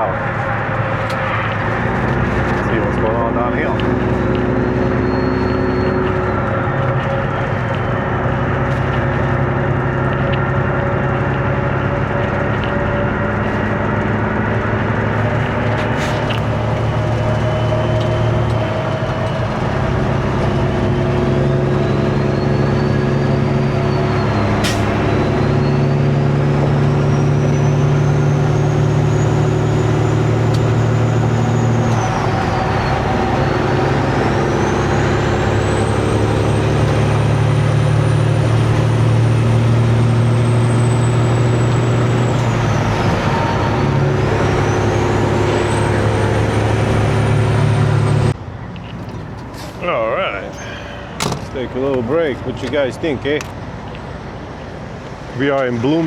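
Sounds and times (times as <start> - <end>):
diesel truck engine drone: 0.0 - 56.0
road noise: 0.0 - 56.0.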